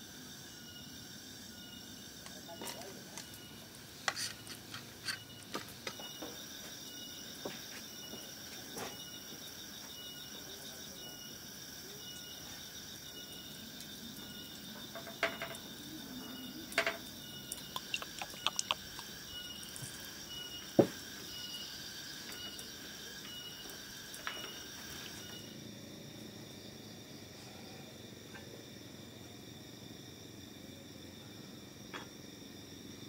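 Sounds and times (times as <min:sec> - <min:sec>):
insect chorus chirping: 0:00.0 - 0:33.0.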